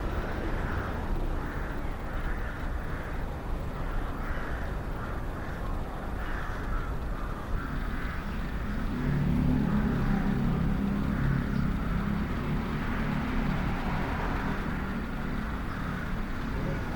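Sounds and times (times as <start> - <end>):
street background noise: 0.0 - 16.9
vehicle engine rumble: 0.0 - 16.9
crows cawing: 0.2 - 16.9.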